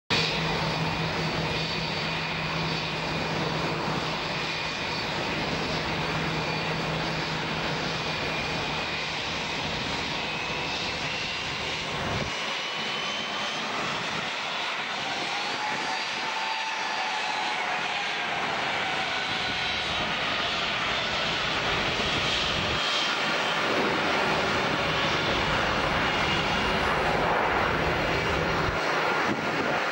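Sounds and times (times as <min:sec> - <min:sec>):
jet engines roaring: 0:00.1 - 0:29.9.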